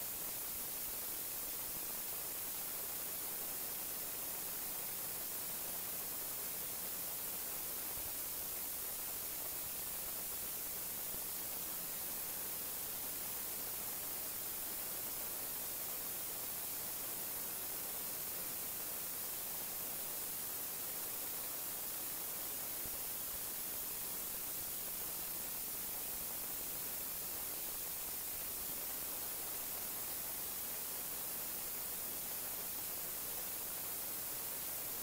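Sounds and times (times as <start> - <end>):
recording noise hiss: 0.0 - 35.0.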